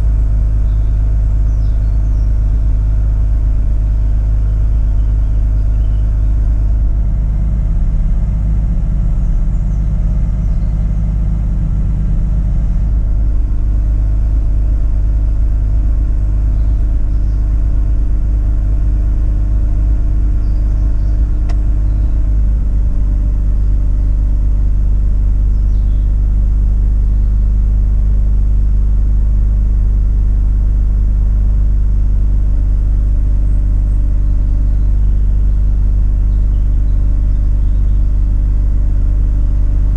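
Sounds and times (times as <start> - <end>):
rotary engine idling: 0.0 - 39.9.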